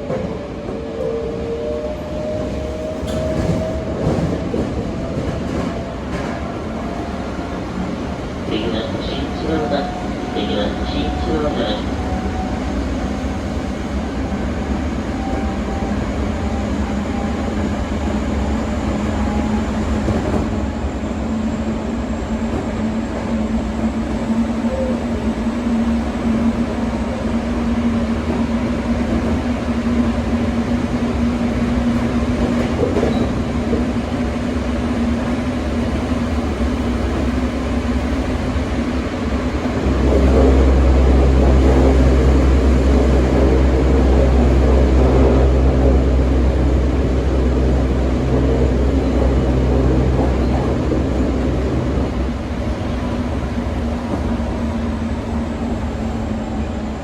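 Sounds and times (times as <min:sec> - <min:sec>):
steady train hum: 0:00.0 - 0:57.0
train wheels rumbling on rail: 0:00.0 - 0:57.0.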